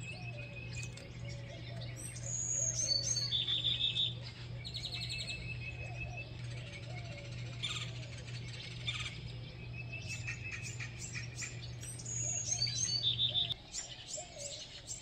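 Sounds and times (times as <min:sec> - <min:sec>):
bird trills: 0:00.0 - 0:15.0
songbirds chirping and singing: 0:00.0 - 0:15.0
steady low hum: 0:00.0 - 0:15.0.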